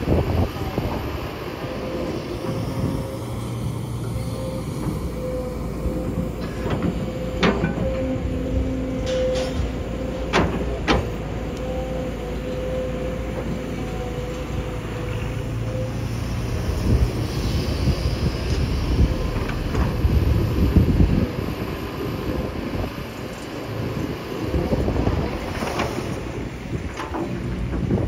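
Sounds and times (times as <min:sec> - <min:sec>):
excavator engine drone: 0:00.0 - 0:28.0.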